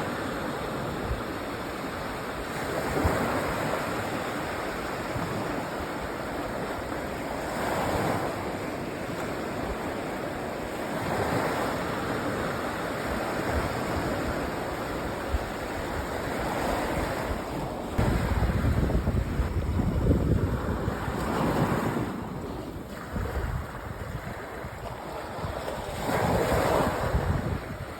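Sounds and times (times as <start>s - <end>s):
waves washing onto beach: 0.0s - 27.9s.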